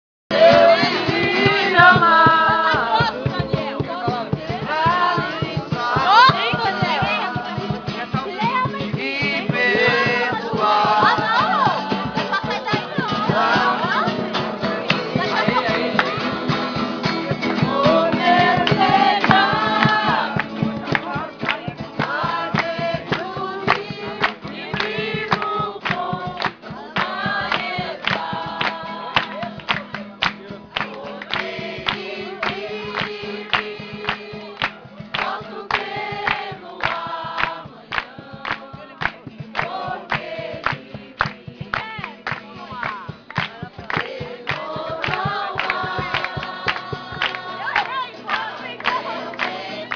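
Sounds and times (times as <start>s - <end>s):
group singing a worship song: 0.3s - 49.9s
sharp rhythmic beats: 0.3s - 49.9s.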